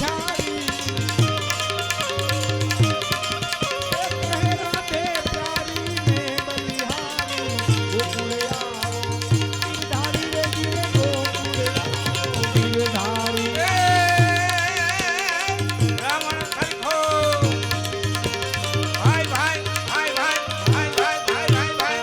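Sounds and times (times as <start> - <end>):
tabla rhythm: 0.0 - 22.0.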